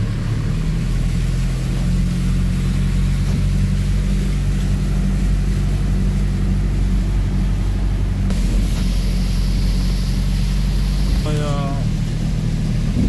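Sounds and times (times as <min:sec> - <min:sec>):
vehicle engine droning: 0:00.0 - 0:13.0
water washing: 0:00.0 - 0:13.0.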